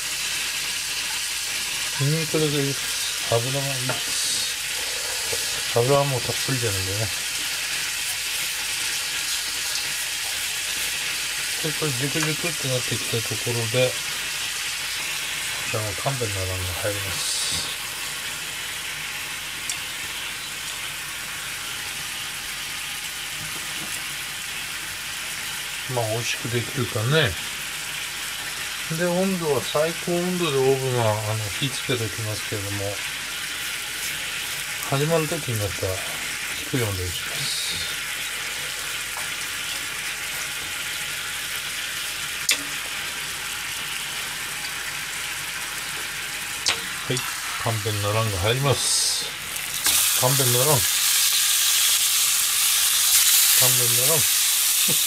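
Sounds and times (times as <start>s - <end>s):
oil sizzling in a pan: 0.0s - 55.0s.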